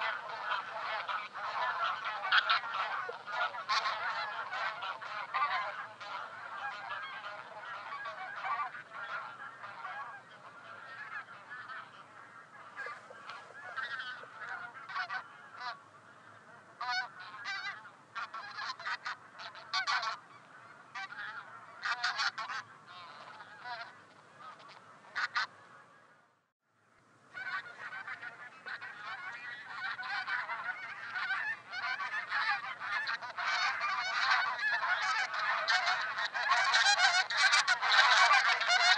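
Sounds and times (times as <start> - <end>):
geese honking: 0.0 - 26.2, 27.3 - 38.9.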